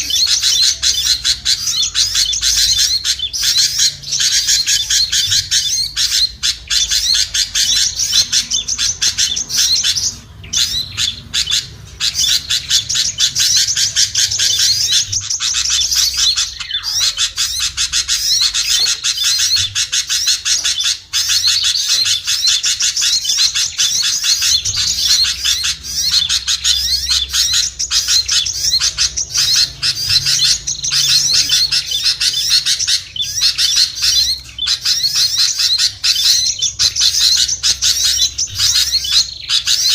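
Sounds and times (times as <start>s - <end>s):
many small birds twittering: 0.0s - 39.9s.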